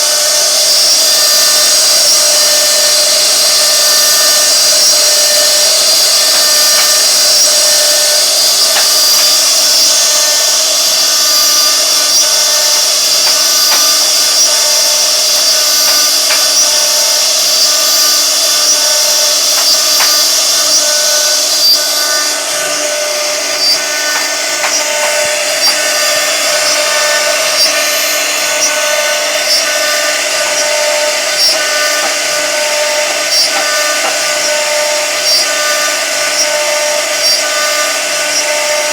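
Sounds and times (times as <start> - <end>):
cnc router spindle whine: 0.0 - 38.9
stepper motor tones: 0.0 - 38.9.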